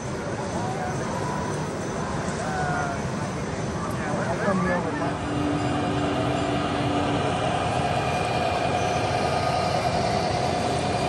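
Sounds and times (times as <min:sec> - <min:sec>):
model train running: 0:00.0 - 0:11.0
steady high whine: 0:00.0 - 0:11.0.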